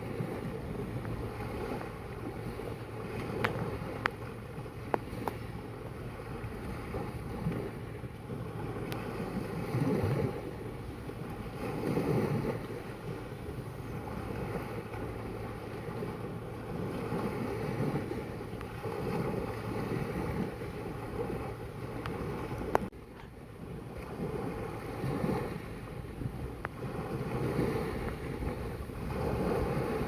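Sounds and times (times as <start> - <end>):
sea waves washing in: 0.0 - 30.0
wind buffeting microphone: 0.0 - 30.0.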